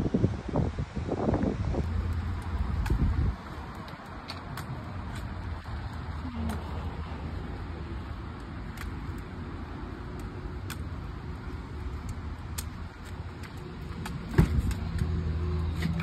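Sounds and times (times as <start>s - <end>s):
low vehicle rumble: 0.0s - 16.0s
crutches tapping on pavement: 2.0s - 16.0s.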